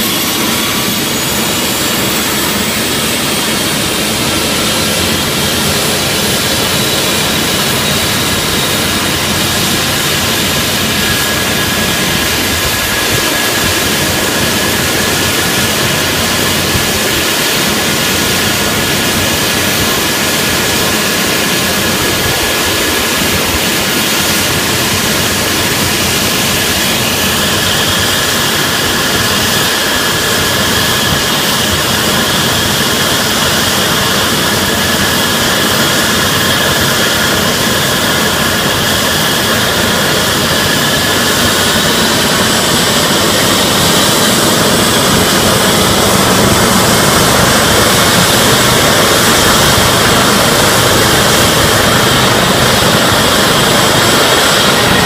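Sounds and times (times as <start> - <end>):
helicopter turbine whine: 0.0 - 55.0
rotor and exhaust rush: 0.0 - 55.0.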